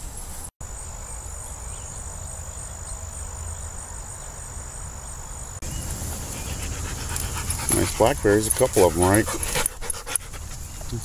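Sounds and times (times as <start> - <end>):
crickets trilling: 0.6 - 11.0.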